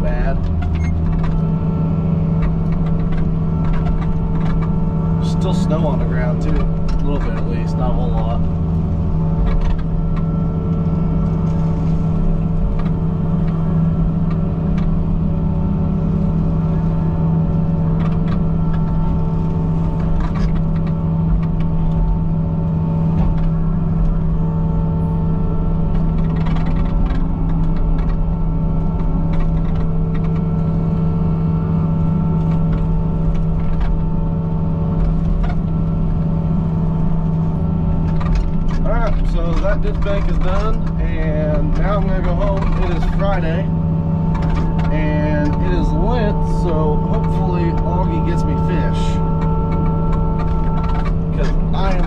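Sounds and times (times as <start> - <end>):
excavator engine and hydraulics: 0.0 - 52.0.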